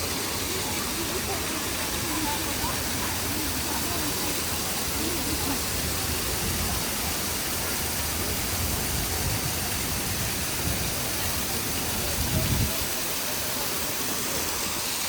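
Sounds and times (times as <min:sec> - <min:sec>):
falling water hiss: 0:00.0 - 0:15.0.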